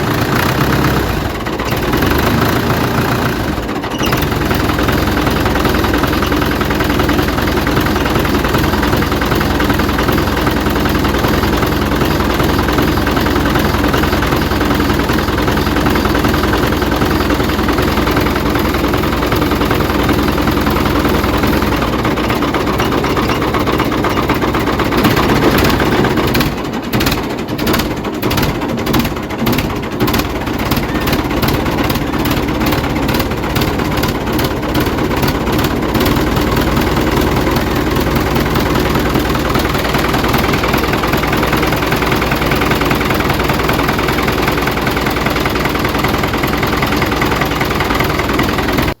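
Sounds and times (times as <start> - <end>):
tractor engine idling: 0.0 - 49.0.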